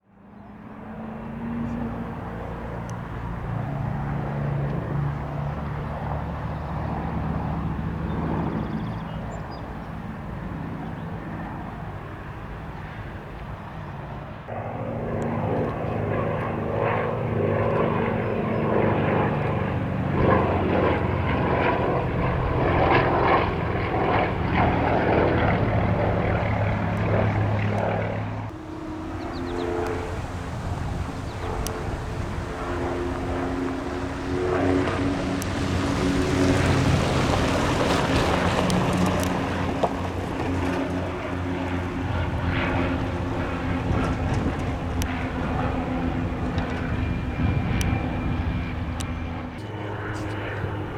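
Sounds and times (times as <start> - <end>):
aircraft engines droning: 0.0 - 50.9
rough pulsing engine noise: 0.3 - 50.9.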